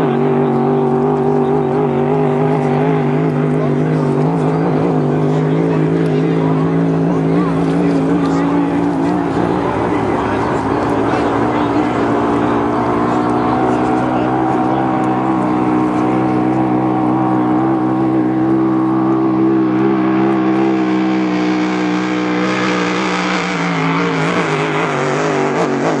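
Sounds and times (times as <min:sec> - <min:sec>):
racing boat engine running hard: 0:00.0 - 0:26.0.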